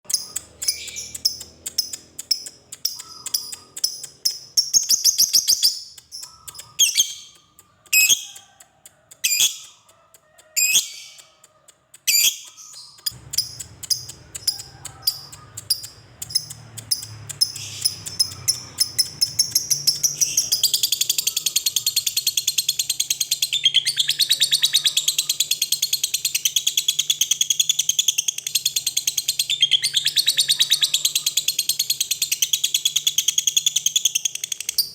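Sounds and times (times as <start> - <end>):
lovebird chirping: 0.1 - 11.4, 12.0 - 34.9.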